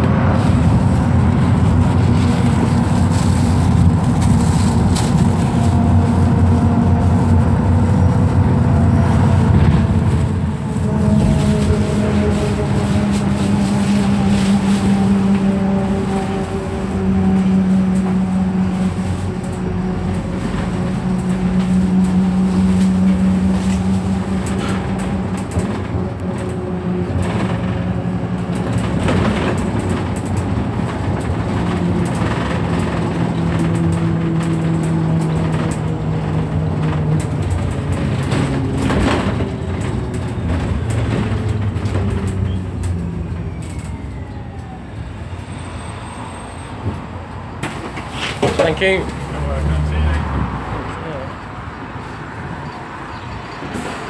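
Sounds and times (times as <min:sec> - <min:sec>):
bus engine and gearbox drone: 0:00.0 - 0:54.0.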